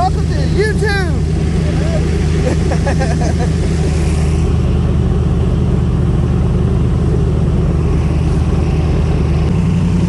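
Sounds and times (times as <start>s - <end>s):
airboat engine and propeller: 0.0s - 10.0s.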